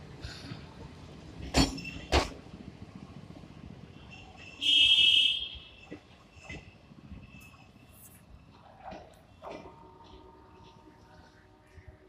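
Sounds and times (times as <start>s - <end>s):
train coaches rumbling: 0.0s - 4.7s, 5.6s - 12.0s.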